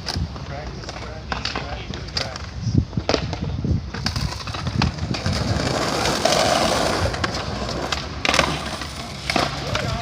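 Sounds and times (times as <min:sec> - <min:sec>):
skateboard knocks and clatters: 0:00.0 - 0:10.0
skateboard wheels rolling on concrete: 0:00.0 - 0:10.0.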